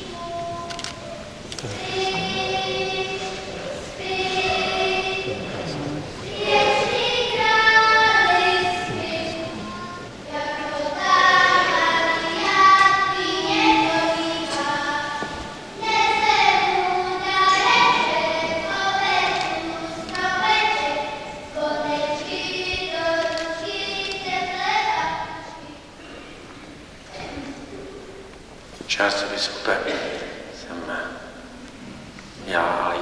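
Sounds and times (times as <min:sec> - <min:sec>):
children's choir singing: 0:00.0 - 0:28.4, 0:29.0 - 0:33.0.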